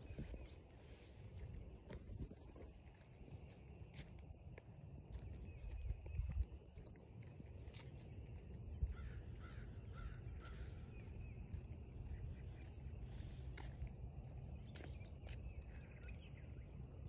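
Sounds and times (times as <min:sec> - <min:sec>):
wind buffeting microphone: 0:00.0 - 0:03.6, 0:05.1 - 0:16.5.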